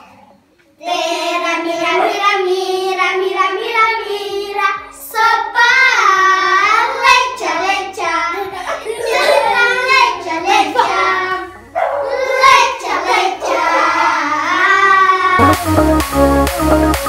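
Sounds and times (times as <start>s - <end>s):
children singing: 0.0s - 15.6s.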